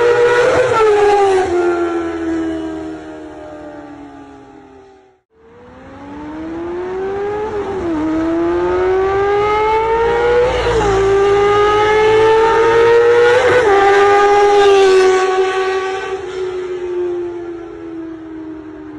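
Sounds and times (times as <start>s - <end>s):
motorcycle engine accelerating: 0.0s - 18.9s.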